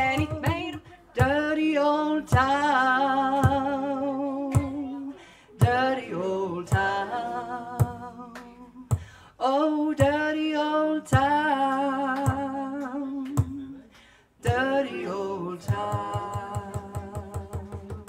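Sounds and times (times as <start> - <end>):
woman singing held notes: 0.0 - 18.0.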